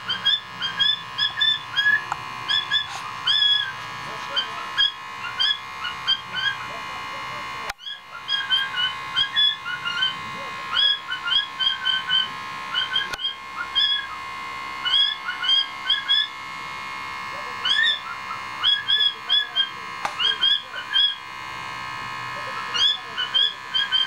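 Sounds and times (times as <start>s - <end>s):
cockatiel chirping: 0.0s - 6.7s, 7.8s - 14.2s, 14.8s - 16.3s, 17.6s - 21.2s, 22.6s - 24.0s
faint steady hum: 0.0s - 24.0s.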